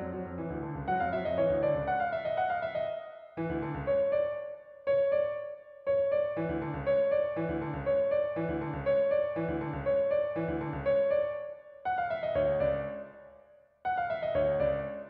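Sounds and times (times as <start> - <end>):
keyboard melody over chords: 0.0 - 15.0.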